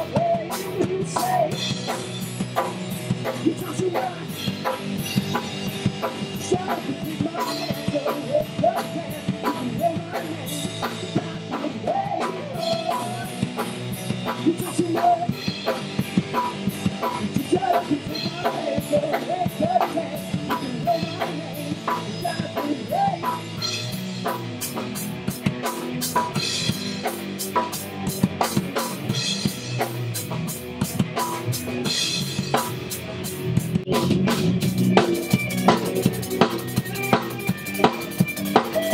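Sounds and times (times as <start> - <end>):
busy drumming: 0.0 - 38.9
live rock band playing: 0.0 - 38.9
wavering guitar line: 0.0 - 38.9.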